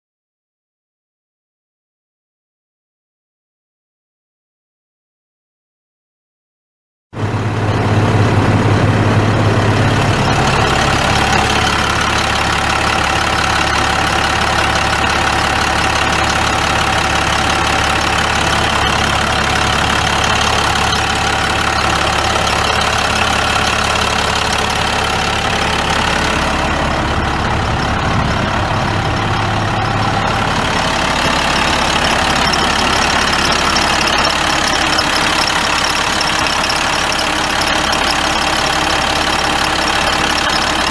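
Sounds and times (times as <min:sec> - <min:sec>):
diesel truck engine idling: 0:07.2 - 0:40.9.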